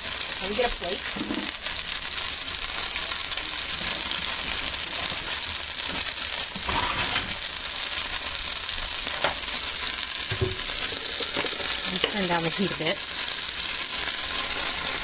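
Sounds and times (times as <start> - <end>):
dumplings sizzling in oil: 0.0 - 15.0.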